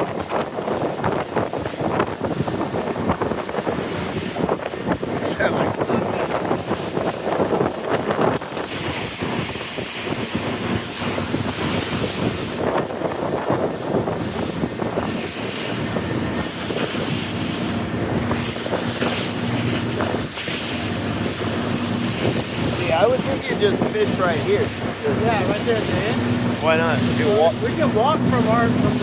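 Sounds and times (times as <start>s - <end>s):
boat engine hum: 0.0s - 29.0s
rushing water: 0.0s - 29.0s
wind buffeting microphone: 0.0s - 29.0s.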